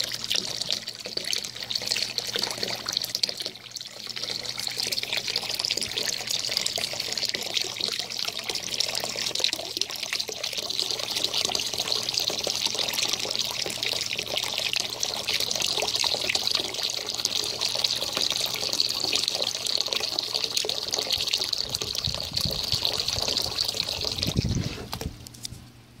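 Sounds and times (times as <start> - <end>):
hose water splashing into pool: 0.0 - 25.2.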